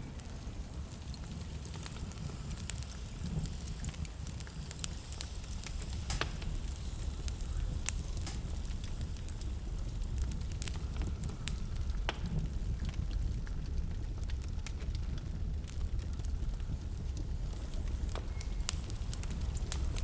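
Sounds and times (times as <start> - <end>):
fire pops and snaps: 0.0 - 20.0
low rumble of flames: 0.0 - 20.0.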